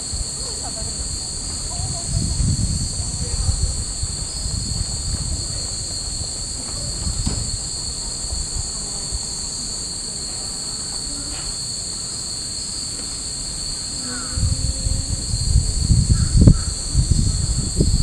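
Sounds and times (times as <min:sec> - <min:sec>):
low uneven rumbling: 0:00.0 - 0:11.7, 0:12.8 - 0:18.0
cicadas shrilling: 0:00.0 - 0:18.0.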